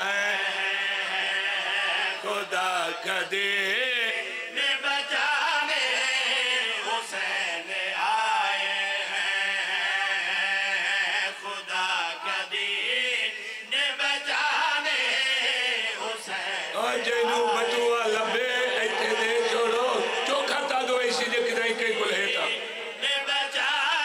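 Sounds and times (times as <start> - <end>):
men chanting through microphones: 0.0 - 24.0.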